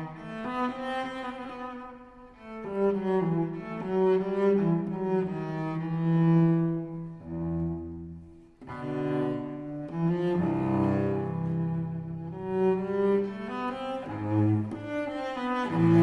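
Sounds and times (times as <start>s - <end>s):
slow bowed-string music: 0.0s - 16.0s.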